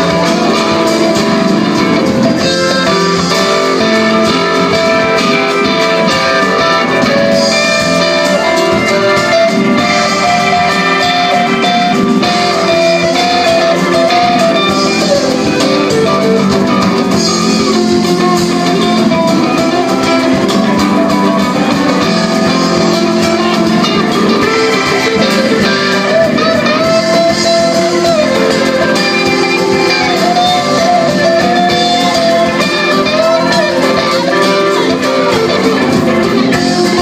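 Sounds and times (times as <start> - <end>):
drum kit: 0.0 - 37.0
guitar: 0.0 - 37.0
live band playing: 0.0 - 37.0.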